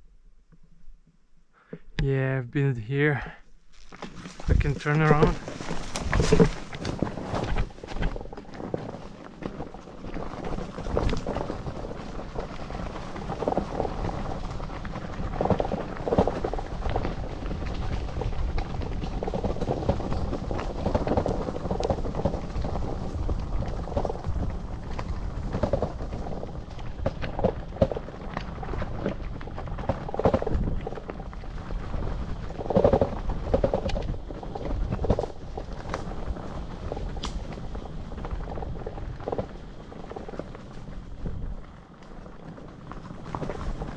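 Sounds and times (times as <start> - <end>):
bike tyres rumbling: 1.6 - 43.9.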